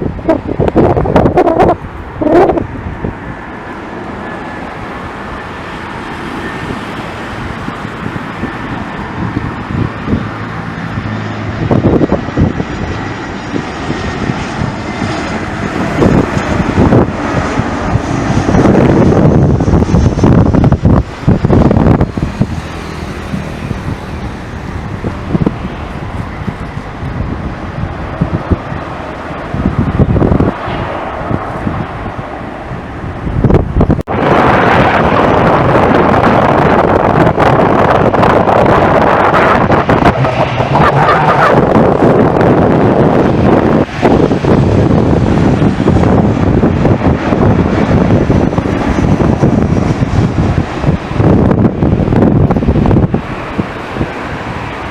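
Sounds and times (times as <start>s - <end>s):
jet engine rush: 0.0s - 54.9s
wind buffeting microphone: 0.0s - 54.9s.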